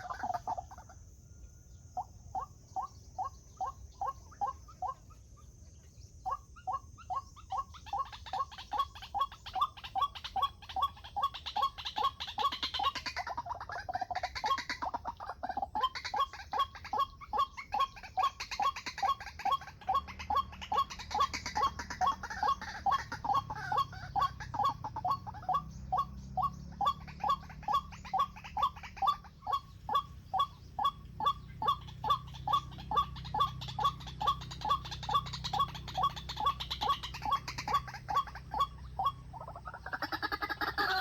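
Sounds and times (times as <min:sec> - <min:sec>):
waterhen calling: 0:00.0 - 0:01.0, 0:01.9 - 0:41.0.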